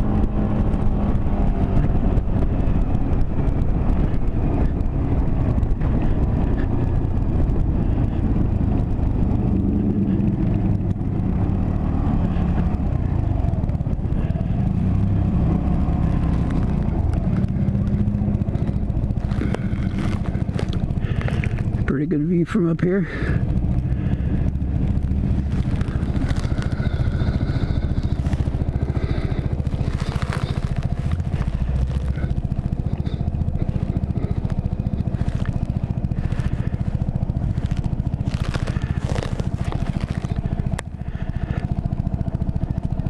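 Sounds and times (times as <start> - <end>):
motorcycle engine running: 0.0 - 43.0
road and wind rush: 0.0 - 43.0.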